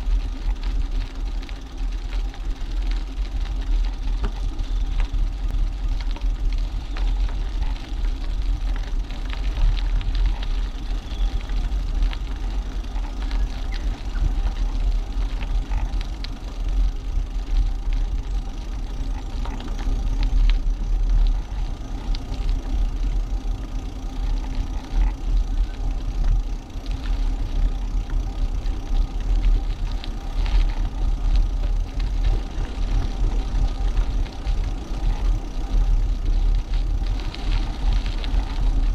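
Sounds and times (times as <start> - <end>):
bike clicks and rattles: 0.0 - 38.9
tyre and road noise: 0.0 - 38.9
wind rumbling on microphone: 0.0 - 38.9.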